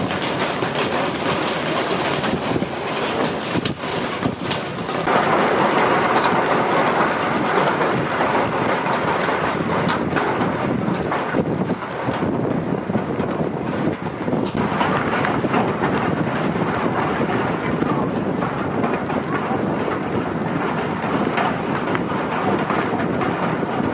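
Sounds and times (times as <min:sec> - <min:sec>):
hail and rain on pavement: 0:00.0 - 0:23.9.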